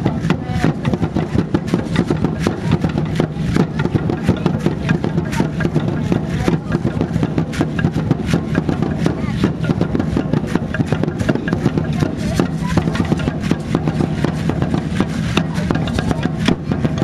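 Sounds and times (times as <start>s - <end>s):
fast drumming: 0.0s - 17.0s
seed-pod ankle rattles shaking: 0.0s - 17.0s.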